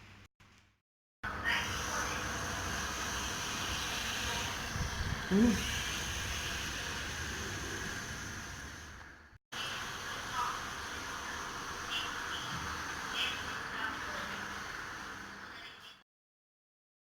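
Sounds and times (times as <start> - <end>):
robot fan whirring hiss: 1.4 - 15.8.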